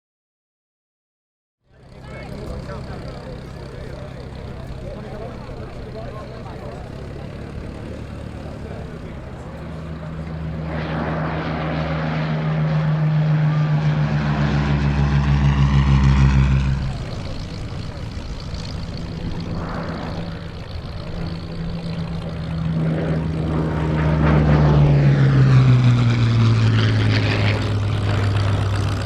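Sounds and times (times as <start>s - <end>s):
propeller aircraft engine: 1.6s - 29.0s.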